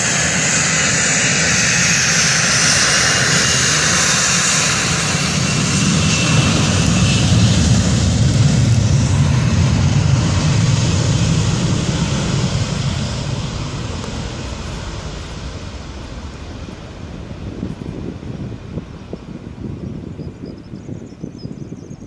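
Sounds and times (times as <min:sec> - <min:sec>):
jet engine deep rumble: 0:00.0 - 0:22.0
jet engine whine: 0:00.0 - 0:22.0.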